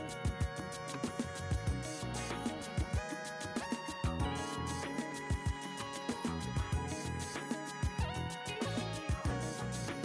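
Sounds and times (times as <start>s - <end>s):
music with held notes: 0.0s - 10.0s.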